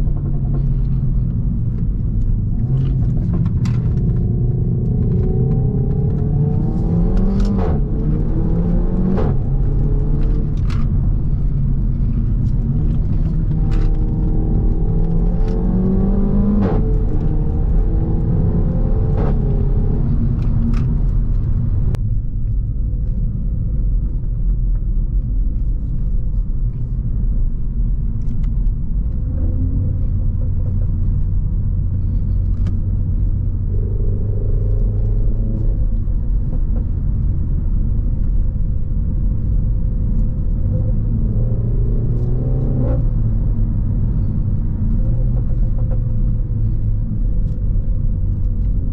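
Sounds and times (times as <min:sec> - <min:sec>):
car engine revving: 0:00.0 - 0:22.0, 0:29.1 - 0:48.9
exhaust cracks: 0:00.0 - 0:48.9.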